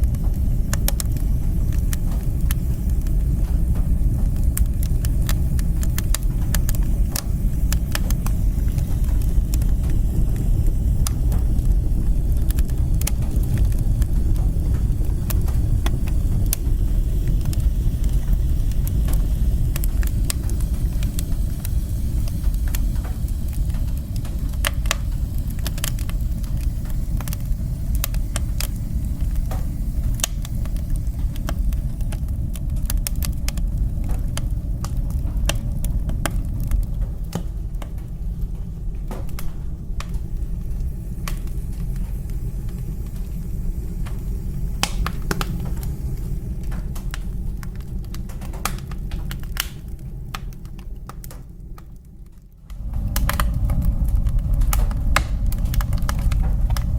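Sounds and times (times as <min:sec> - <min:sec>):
fire crackling and popping: 0:00.0 - 0:56.9
fire rumbling: 0:00.0 - 0:56.9.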